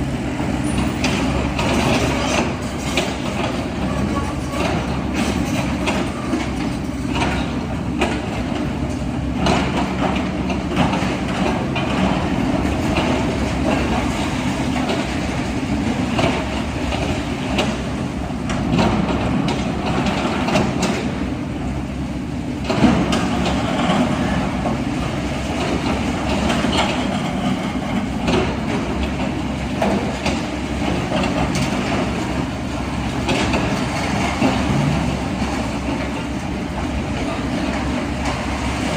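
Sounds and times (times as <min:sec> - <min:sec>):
diesel engine of heavy machinery: 0:00.0 - 0:38.9.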